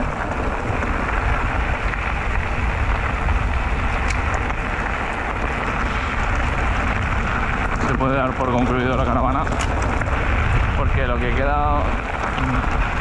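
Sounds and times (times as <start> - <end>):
bicycle tyres rolling on gravel: 0.0 - 13.0
wind buffeting microphone: 0.0 - 13.0.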